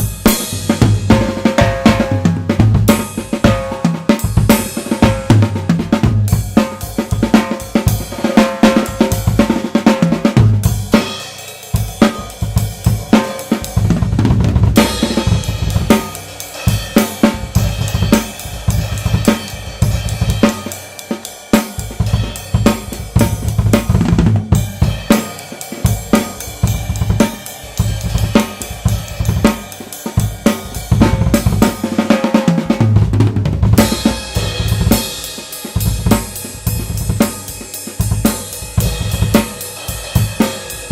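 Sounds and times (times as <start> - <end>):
drum kit playing: 0.0 - 40.9.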